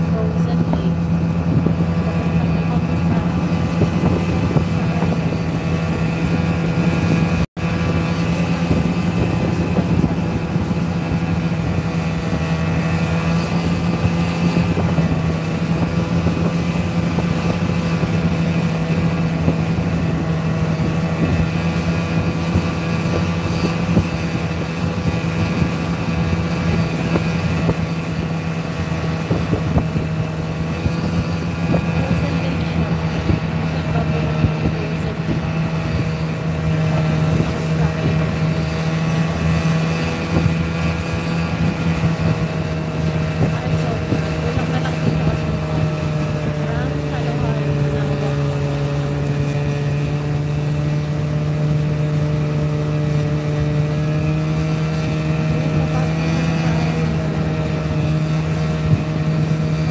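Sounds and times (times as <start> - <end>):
snowmobile engine droning: 0.0 - 59.9.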